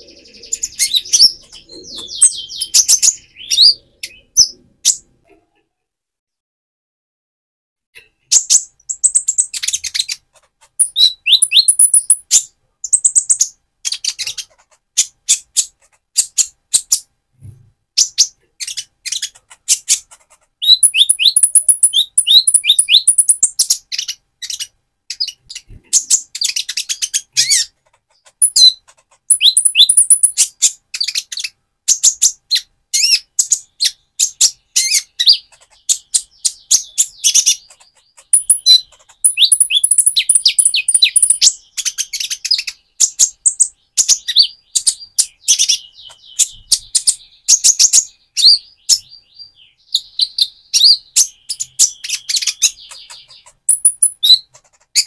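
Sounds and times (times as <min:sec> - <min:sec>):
bird chirping and twittering: 0:00.0 - 0:05.2, 0:08.0 - 0:55.0.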